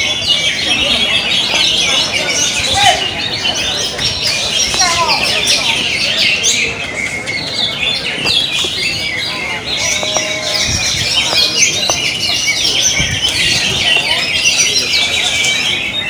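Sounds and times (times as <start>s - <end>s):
chorus of birds chirping: 0.0s - 16.0s.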